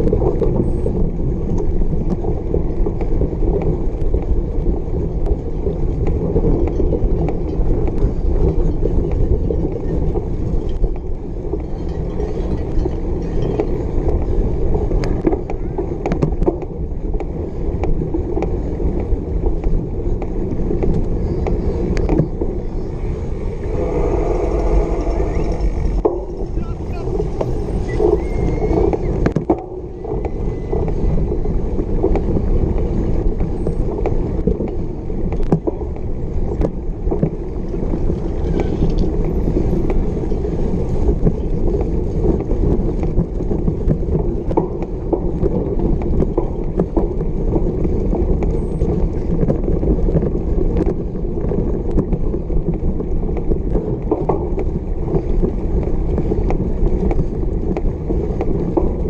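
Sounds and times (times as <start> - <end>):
bike rattles and clicks: 0.0 - 59.0
bike tyres rumbling over grass: 0.0 - 59.0.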